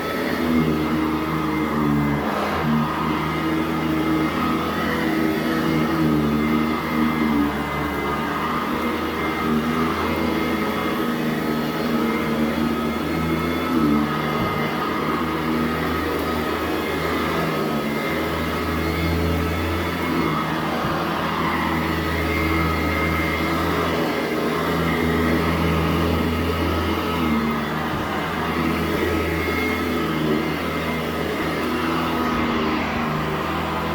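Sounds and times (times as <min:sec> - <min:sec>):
vacuum cleaner running: 0:00.0 - 0:33.9
vacuum cleaner bump: 0:00.1 - 0:33.9.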